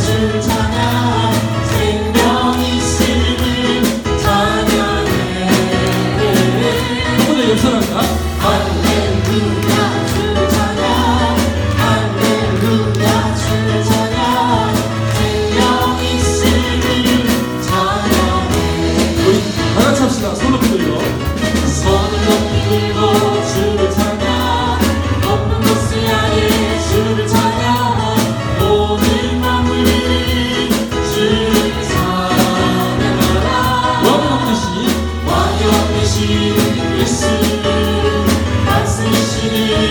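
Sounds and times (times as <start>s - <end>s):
band accompaniment with bass and beat: 0.0s - 39.9s
group singing praise song: 0.0s - 39.9s.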